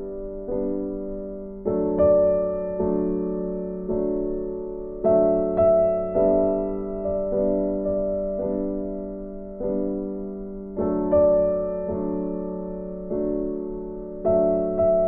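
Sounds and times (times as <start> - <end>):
slow gentle piano: 0.0 - 15.0.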